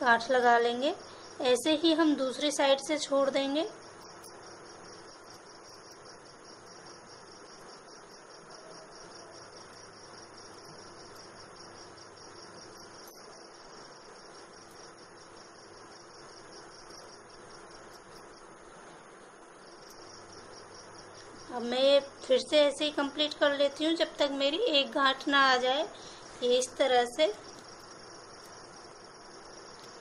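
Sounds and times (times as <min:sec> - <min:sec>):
cricket chirping: 0:00.0 - 0:30.0
faint hiss: 0:00.0 - 0:30.0.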